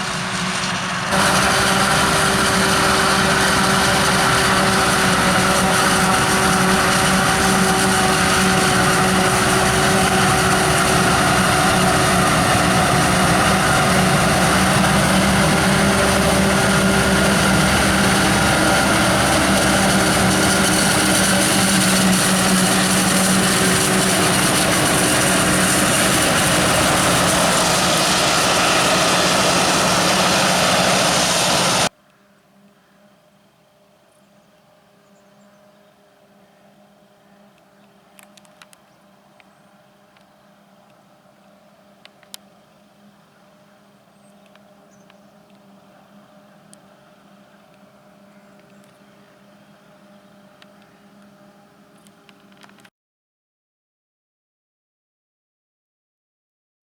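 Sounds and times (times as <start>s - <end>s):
diesel engines droning: 0.0s - 31.9s, 34.2s - 52.9s.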